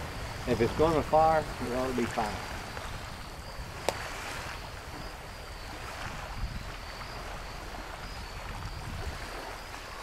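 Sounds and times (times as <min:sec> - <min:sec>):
faint steady hiss: 0:00.0 - 0:10.0
wind rumble on microphone: 0:00.0 - 0:10.0.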